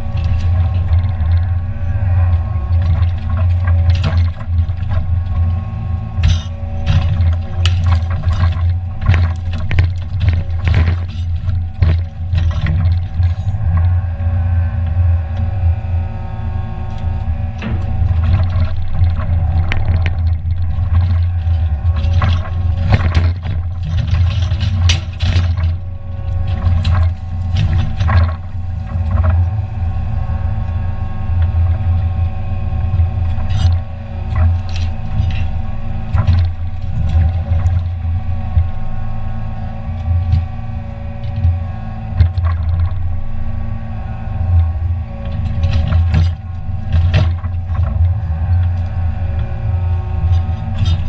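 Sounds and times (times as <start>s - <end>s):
wood cracking and knocking: 0.0s - 14.0s, 17.6s - 38.8s, 39.9s - 43.1s, 44.6s - 49.6s
diesel engine running: 0.0s - 51.0s
hydraulic whine: 0.0s - 51.0s.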